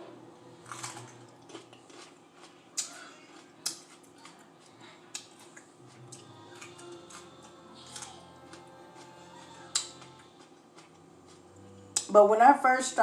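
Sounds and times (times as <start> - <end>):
crunching and chewing peppers: 0.5 - 12.1.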